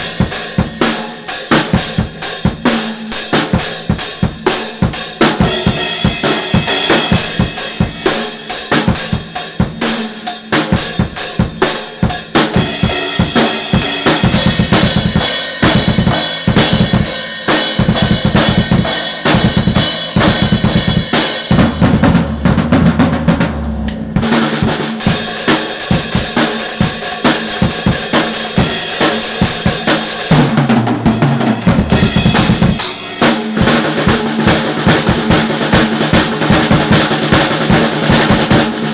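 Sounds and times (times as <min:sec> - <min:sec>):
drum kit played fast: 0:00.0 - 0:38.9.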